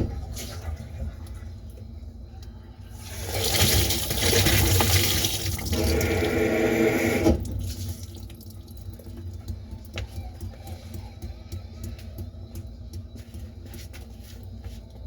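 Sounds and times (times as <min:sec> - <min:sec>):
water running through plumbing: 0:00.0 - 0:15.0.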